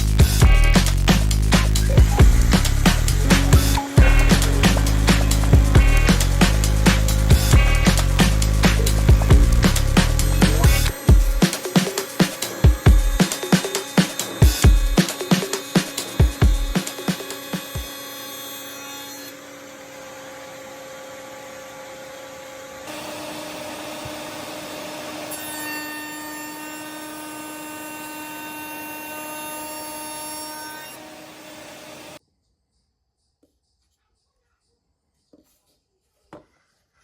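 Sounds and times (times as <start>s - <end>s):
router whining cutting wood: 0.6s - 32.2s.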